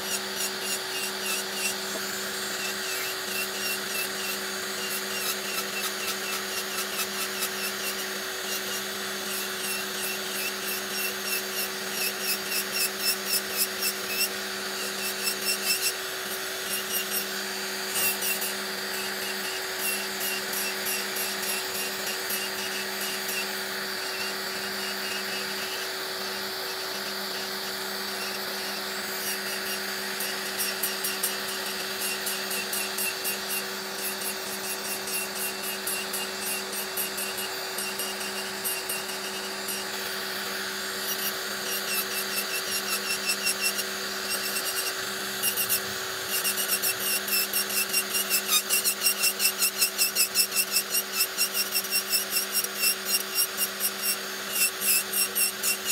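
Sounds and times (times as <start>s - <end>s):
electric nail drill grinding: 0.0s - 55.9s.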